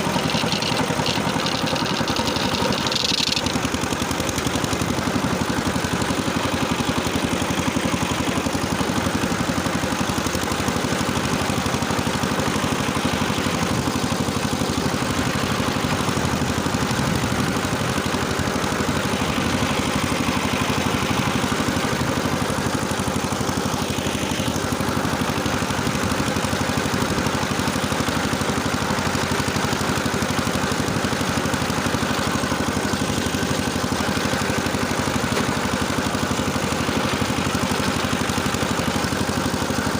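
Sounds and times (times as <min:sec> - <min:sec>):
rotary tiller engine running: 0:00.0 - 0:39.9.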